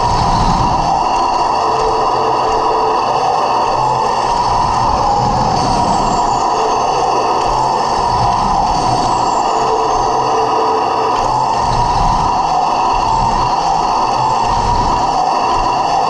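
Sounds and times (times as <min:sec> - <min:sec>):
toy tank motors whining: 0:00.0 - 0:16.0.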